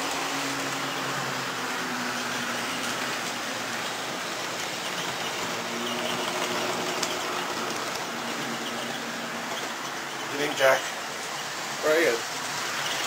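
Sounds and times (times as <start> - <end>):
model trains running on track: 0.0 - 13.0.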